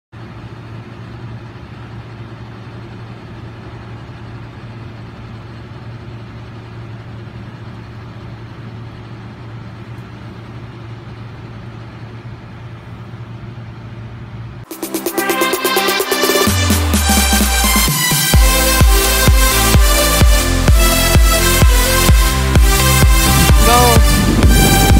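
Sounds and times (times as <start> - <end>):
low mechanical hum: 0.2 - 14.7, 18.3 - 24.9.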